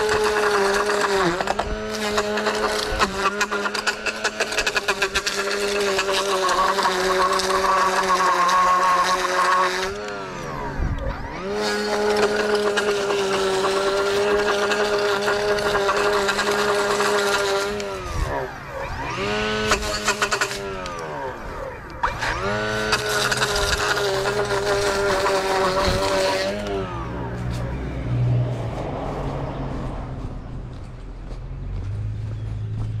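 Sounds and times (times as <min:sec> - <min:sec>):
small gas engine revving: 0:00.0 - 0:33.0.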